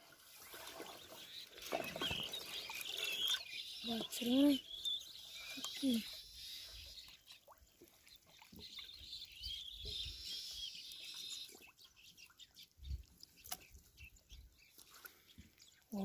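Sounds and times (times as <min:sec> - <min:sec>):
bird chirps: 0:01.1 - 0:07.6, 0:08.2 - 0:16.0.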